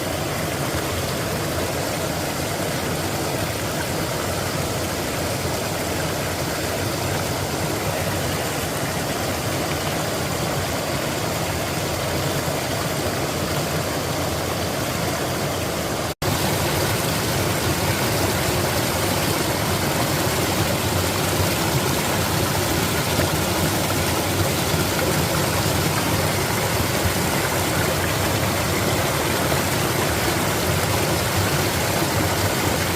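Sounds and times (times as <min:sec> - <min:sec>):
flowing water rushing: 0:00.0 - 0:32.9.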